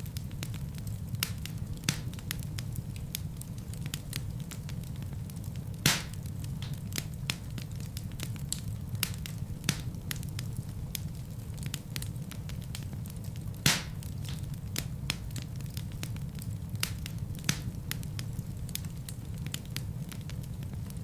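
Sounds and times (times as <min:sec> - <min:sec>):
logs crackling and popping: 0:00.0 - 0:21.0
low rumble of flames: 0:00.0 - 0:21.0.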